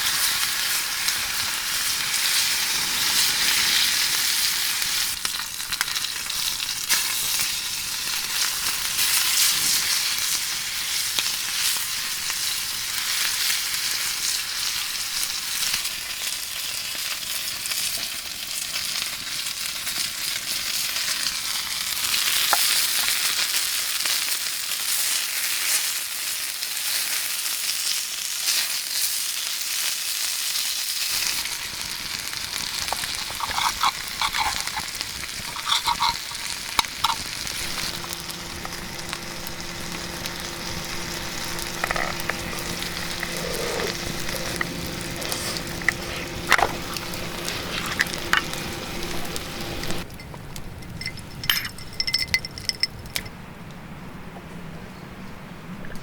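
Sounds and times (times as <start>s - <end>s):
food sizzling in a pan: 0.0s - 50.1s.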